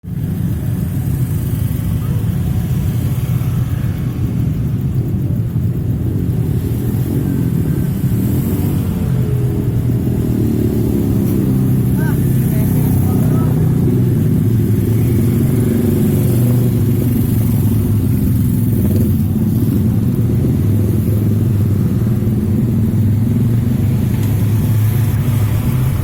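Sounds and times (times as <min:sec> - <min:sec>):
engines rumbling: 0:00.0 - 0:26.0.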